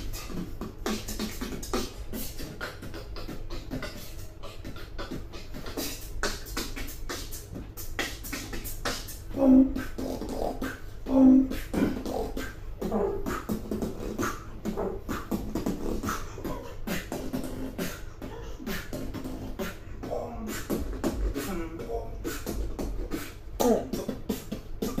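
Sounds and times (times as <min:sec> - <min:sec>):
held vocal notes: 0:00.0 - 0:25.0
person beatboxing: 0:00.0 - 0:25.0.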